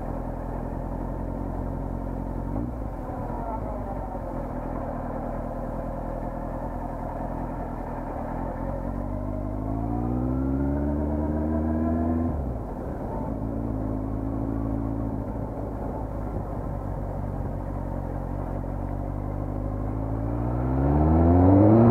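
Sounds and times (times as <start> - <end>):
motorcycle engine accelerating: 0.0 - 21.9.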